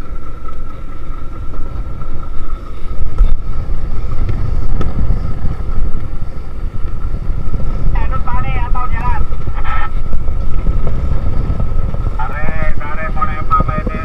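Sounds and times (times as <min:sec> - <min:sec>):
boat engine rumble and whine: 0:00.0 - 0:14.0
wind buffeting microphone: 0:00.0 - 0:14.0.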